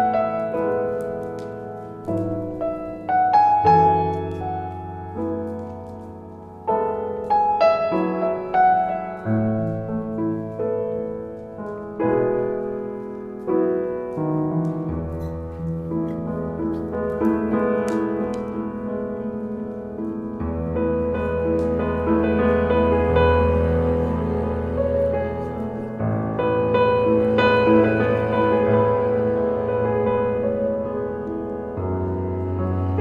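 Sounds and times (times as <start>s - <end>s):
solo piano music: 0.0s - 33.0s.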